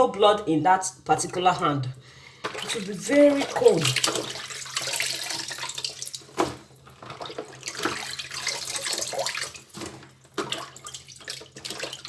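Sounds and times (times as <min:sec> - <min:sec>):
water sloshing and splashing: 0:01.2 - 0:12.0.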